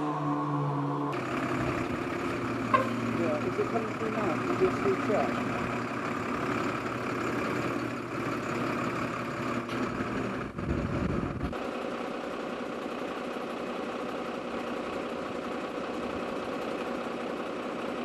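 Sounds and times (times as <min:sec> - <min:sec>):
engine humming steadily: 0:00.0 - 0:18.0
lorry engine idling: 0:01.1 - 0:18.0.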